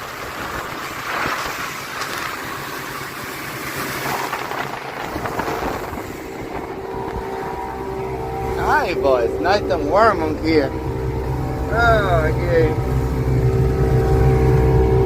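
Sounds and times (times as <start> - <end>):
hull on water: 0.0 - 15.0
motorboat engine: 0.0 - 15.0
wind rush: 0.0 - 15.0.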